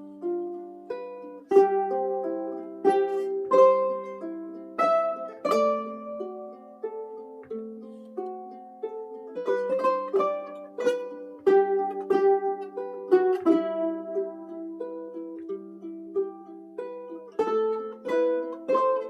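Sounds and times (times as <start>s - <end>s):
ukulele plucked notes: 0.0s - 19.0s
ukulele strummed chords: 0.0s - 19.0s.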